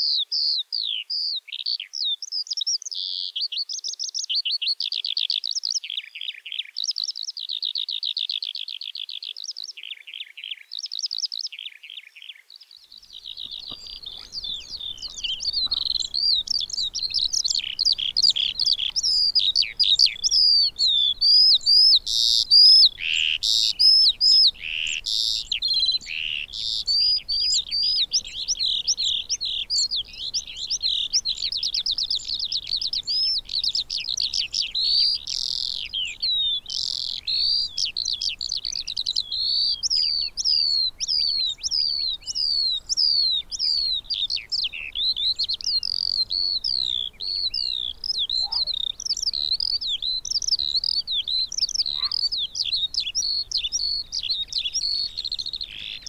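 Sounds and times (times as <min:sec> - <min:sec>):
skylark song: 0:00.0 - 0:56.0.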